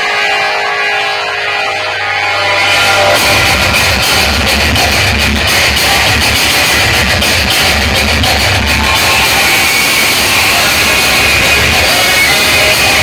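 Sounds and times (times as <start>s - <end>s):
loud music with heavy bass beat: 0.1s - 13.0s.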